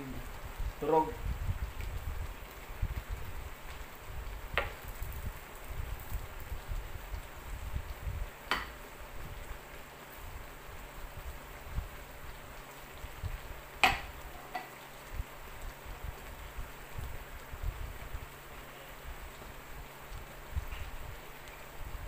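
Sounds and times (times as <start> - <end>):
pot simmering rumble: 0.0 - 22.0.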